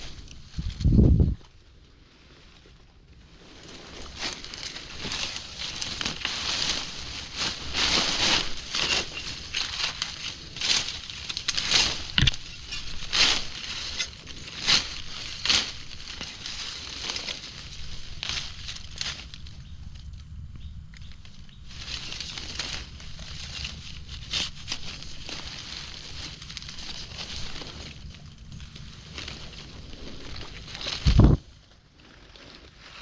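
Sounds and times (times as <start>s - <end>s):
dry leaves and twigs crunching: 0.0s - 33.0s.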